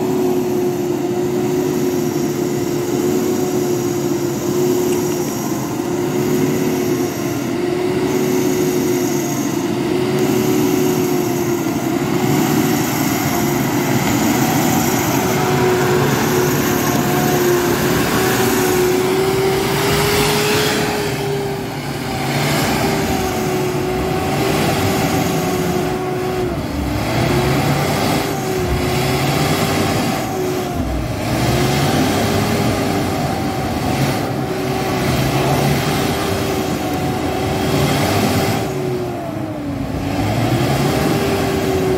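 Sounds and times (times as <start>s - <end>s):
rough noisy wash: 0.0s - 41.9s
truck engine whining: 0.0s - 41.9s.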